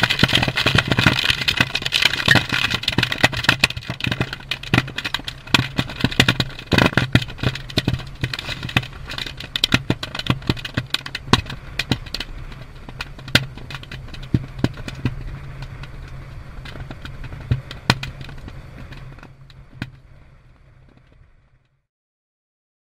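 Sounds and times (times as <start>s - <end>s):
low rumble of fire: 0.0s - 21.9s.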